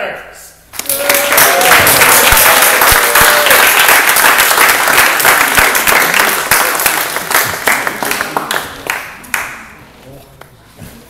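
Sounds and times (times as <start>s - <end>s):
crowd applauding: 0.7s - 9.8s.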